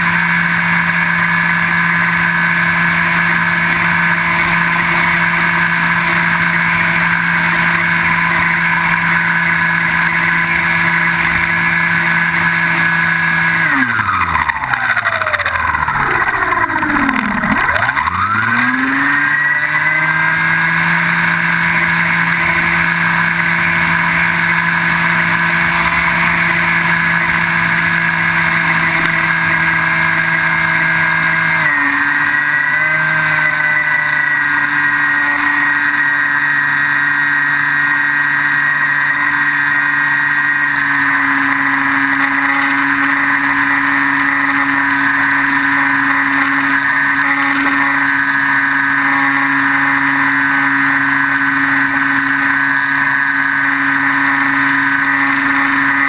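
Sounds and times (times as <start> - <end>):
electric motor and propeller: 0.0 - 56.0.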